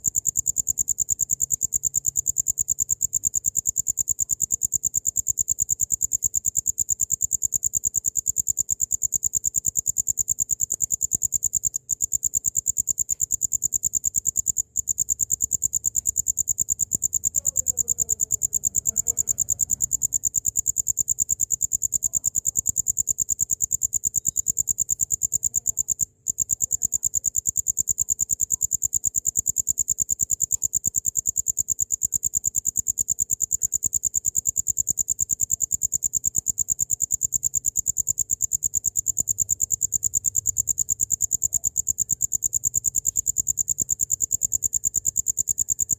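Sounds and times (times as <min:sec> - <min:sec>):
cricket trilling: 0:00.0 - 0:45.9.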